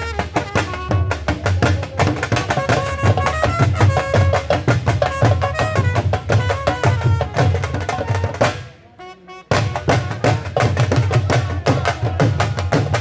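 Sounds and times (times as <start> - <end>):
dhol drumming: 0.0 - 8.8, 9.5 - 13.0.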